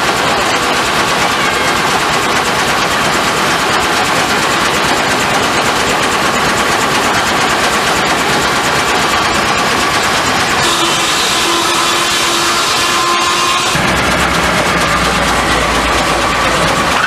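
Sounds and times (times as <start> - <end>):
sawmill machinery clattering: 0.0 - 17.0.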